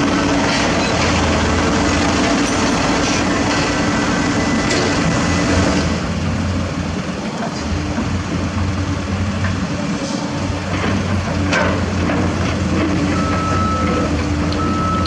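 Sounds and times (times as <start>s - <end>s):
diesel machinery droning: 0.0s - 15.0s.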